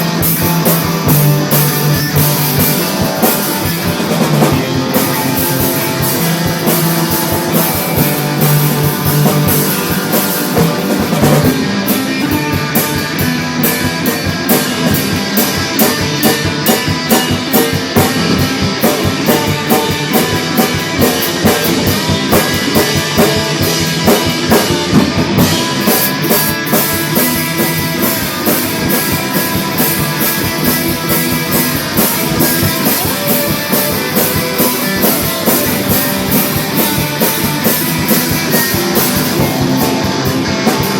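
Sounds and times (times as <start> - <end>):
rock music with drums and guitar: 0.0 - 40.9.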